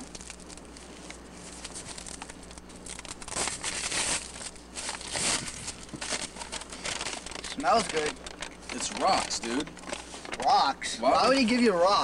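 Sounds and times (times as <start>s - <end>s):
package crinkling and tearing: 0.0s - 10.6s.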